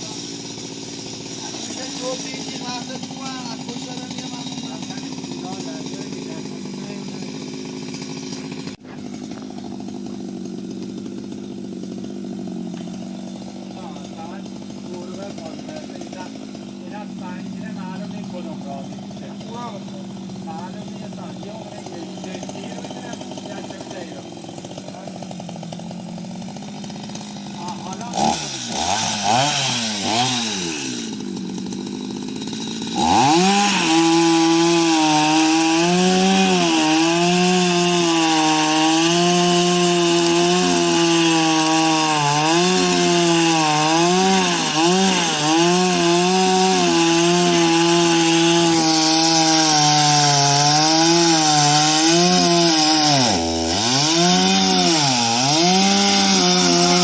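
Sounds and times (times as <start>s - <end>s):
chainsaw cutting wood: 0.0s - 57.0s
chainsaw idling and revving: 0.0s - 57.0s.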